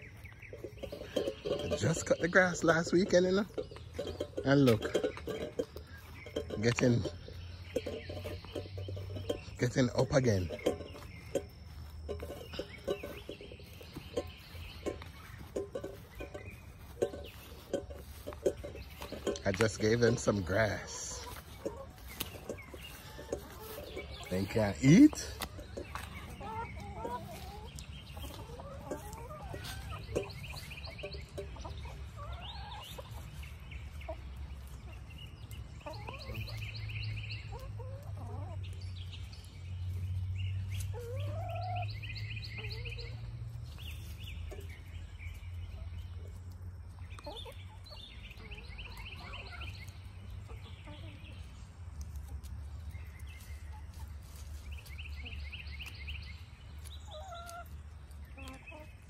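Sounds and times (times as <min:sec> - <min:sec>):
hens clucking: 0:00.0 - 0:59.0.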